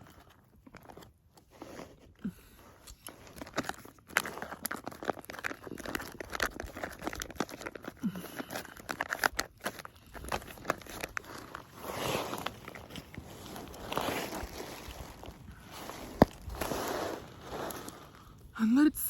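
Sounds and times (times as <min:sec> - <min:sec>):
foil pouch crinkling: 0:03.0 - 0:18.5.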